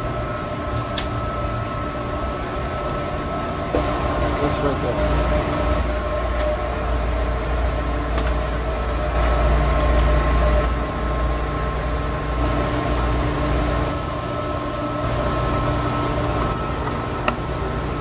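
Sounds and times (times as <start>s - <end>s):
machinery drone with steady tones: 0.0s - 18.0s.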